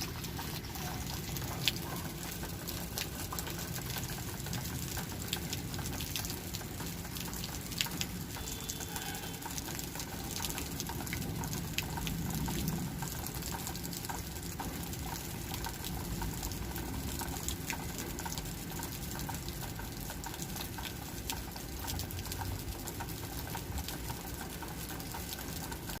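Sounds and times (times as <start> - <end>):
steady rain pattering: 0.0 - 26.0.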